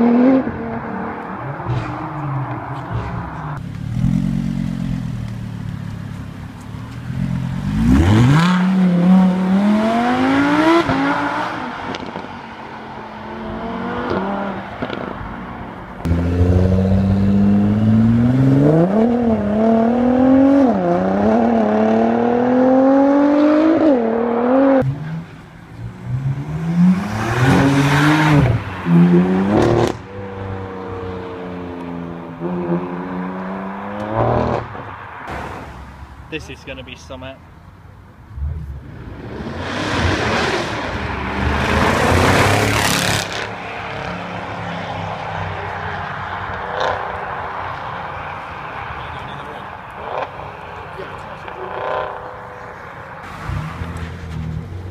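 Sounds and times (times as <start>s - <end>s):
car engines accelerating hard: 0.0s - 36.7s, 38.3s - 54.9s.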